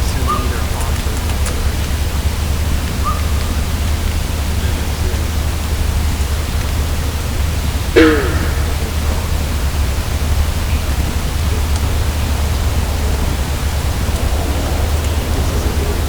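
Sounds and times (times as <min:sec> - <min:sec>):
low hum: 0:00.0 - 0:16.0
steady hiss: 0:00.0 - 0:16.0.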